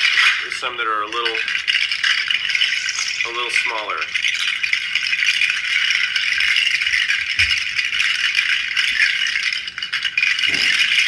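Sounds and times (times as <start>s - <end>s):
seed pod rattle shaken: 0.0s - 11.0s.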